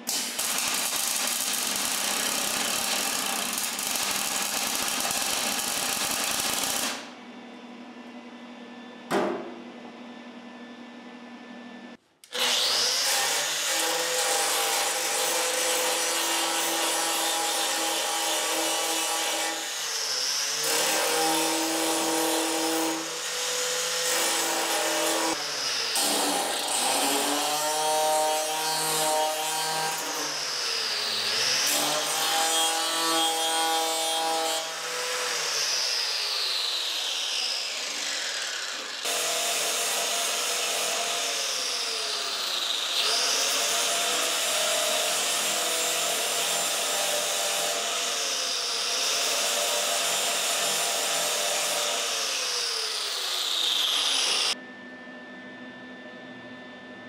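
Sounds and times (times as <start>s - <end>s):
angle grinder grinding metal: 0.0s - 7.0s, 12.3s - 54.6s.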